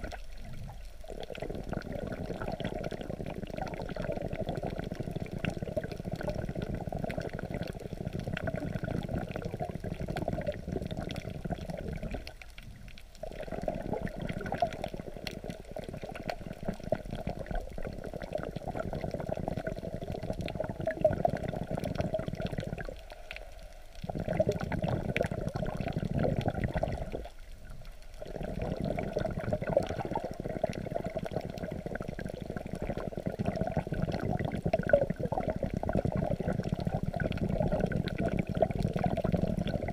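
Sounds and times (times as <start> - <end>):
underwater water rushing: 0.0 - 39.9.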